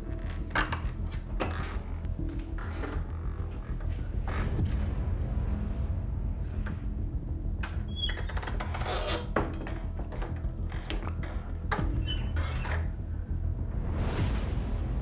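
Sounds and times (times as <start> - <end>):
low background music: 0.0 - 15.0.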